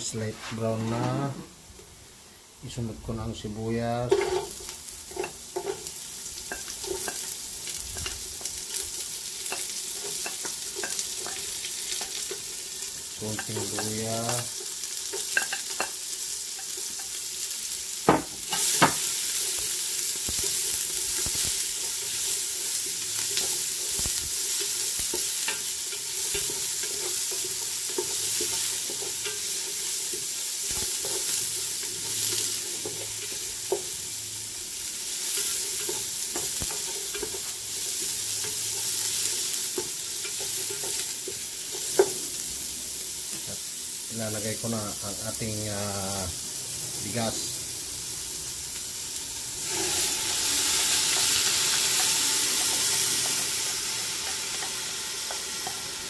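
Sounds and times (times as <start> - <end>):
garlic and onion sizzling in oil: 0.0 - 56.0.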